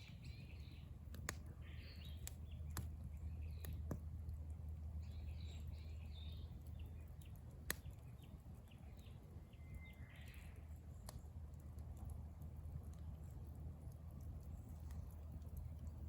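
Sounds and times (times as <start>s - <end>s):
birds chirping faintly: 0.0s - 16.0s
campfire crackling and popping: 0.0s - 16.0s
low steady rumble: 0.0s - 16.0s.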